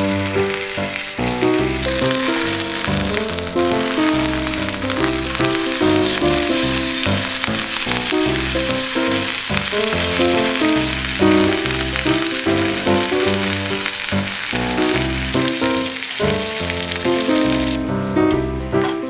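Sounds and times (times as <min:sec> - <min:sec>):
food sizzling: 0:00.0 - 0:19.0
plucked melody music: 0:00.0 - 0:19.0.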